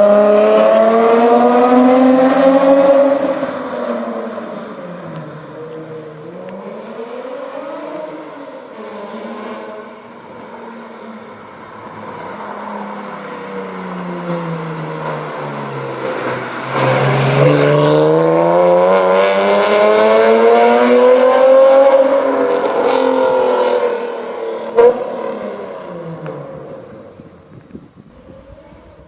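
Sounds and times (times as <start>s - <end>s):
car engine revving: 0.0s - 27.6s.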